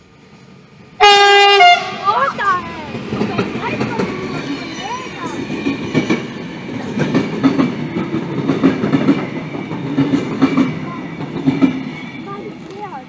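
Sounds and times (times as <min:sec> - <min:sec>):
train wheels clattering over rail joints: 0:02.1 - 0:13.0.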